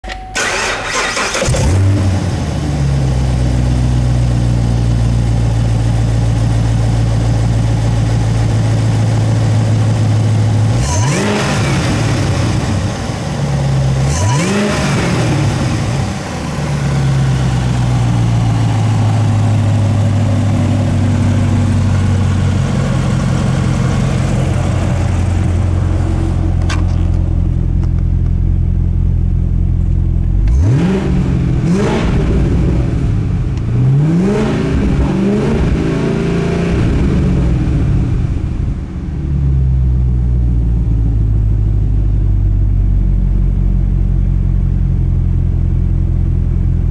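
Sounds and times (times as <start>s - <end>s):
car engine idling and revving: 0.4s - 46.9s.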